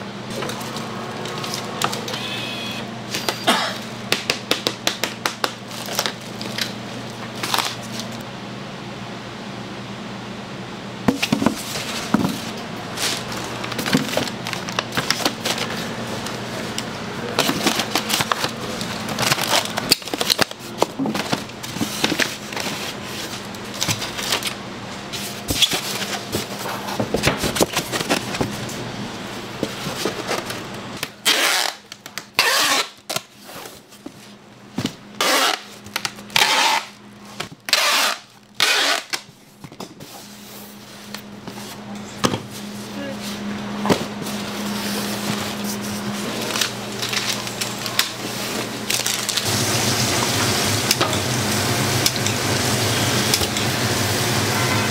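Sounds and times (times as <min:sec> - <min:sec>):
steady hum: 0:00.0 - 0:32.0, 0:32.6 - 0:54.9.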